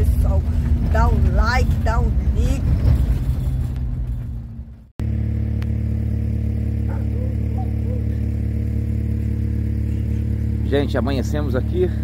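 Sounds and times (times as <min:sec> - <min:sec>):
engine idling hum: 0:00.0 - 0:12.0
vehicle driving on rough road: 0:00.0 - 0:12.0.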